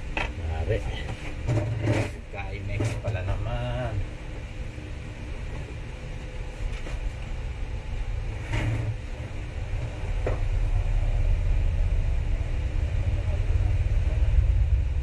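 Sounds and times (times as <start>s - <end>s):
low rumble with faint hum: 0.0s - 15.0s.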